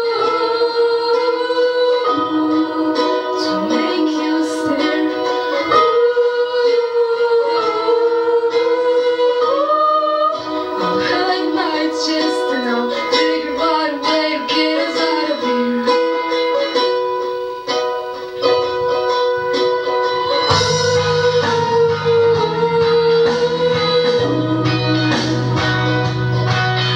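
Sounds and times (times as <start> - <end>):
person singing long notes: 0.0 - 26.9
plucked ukulele: 0.0 - 26.9.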